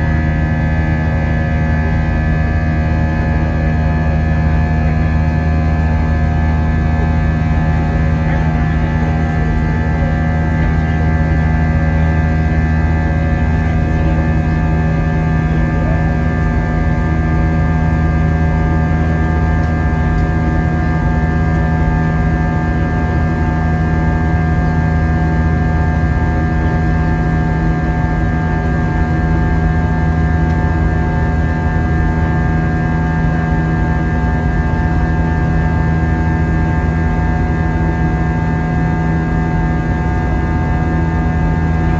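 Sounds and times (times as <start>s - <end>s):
airplane cabin drone: 0.0s - 41.9s.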